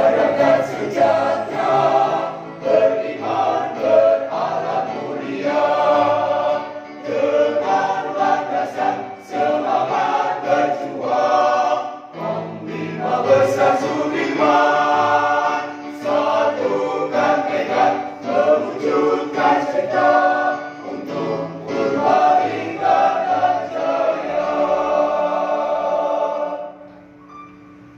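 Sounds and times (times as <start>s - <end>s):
mixed choir singing a march: 0.0s - 27.0s.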